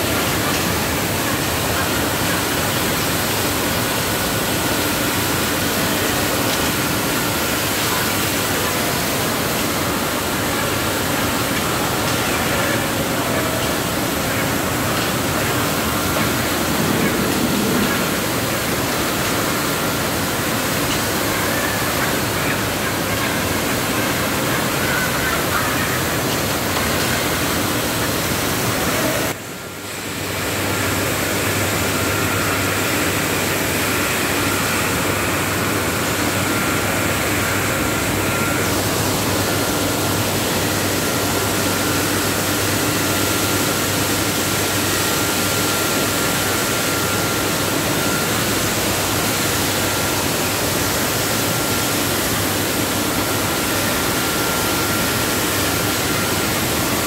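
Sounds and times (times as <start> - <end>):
low machine hum: 0.0 - 57.0
thin steady whine: 0.0 - 57.0.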